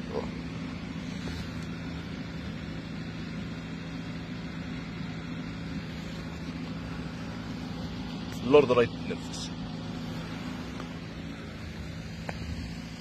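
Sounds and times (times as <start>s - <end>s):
low mechanical hum: 0.0s - 13.0s
outdoor background noise: 0.0s - 13.0s.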